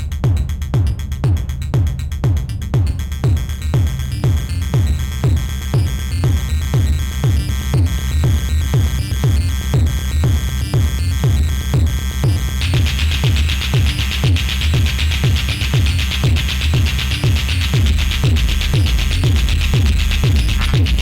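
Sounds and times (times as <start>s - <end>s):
kick drum: 0.0s - 21.0s
synth bass: 0.0s - 21.0s.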